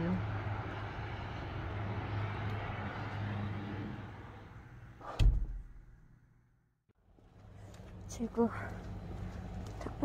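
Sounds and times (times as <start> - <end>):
distant traffic rumble: 0.0 - 6.4, 7.0 - 10.0.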